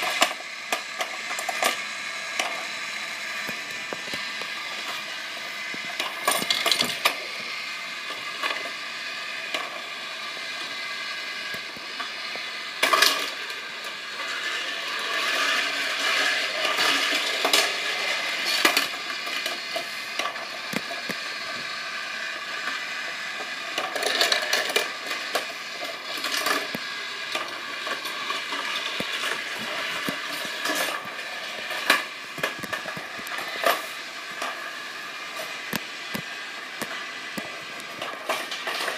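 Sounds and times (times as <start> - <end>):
toy cars clattering on plastic: 0.0 - 2.7, 5.8 - 9.9, 10.6 - 38.9
steady whir: 0.0 - 38.9.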